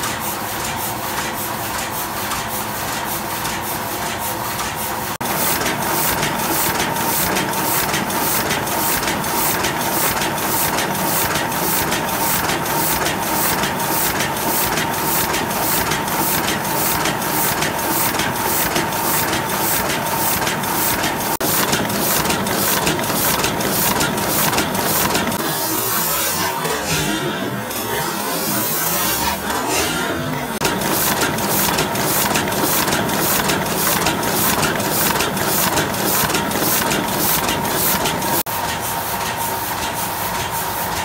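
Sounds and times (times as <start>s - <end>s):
printing press clattering: 0.1s - 25.4s, 30.5s - 41.0s.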